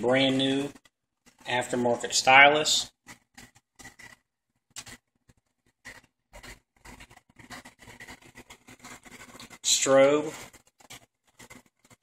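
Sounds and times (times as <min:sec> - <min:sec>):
light scratching: 0:00.0 - 0:12.0.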